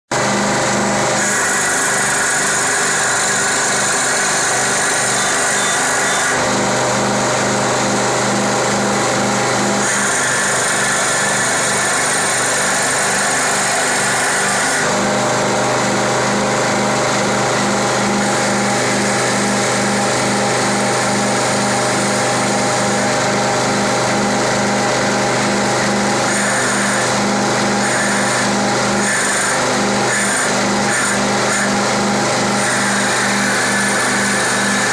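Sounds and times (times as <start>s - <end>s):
lathe motor whine: 0.1s - 34.9s.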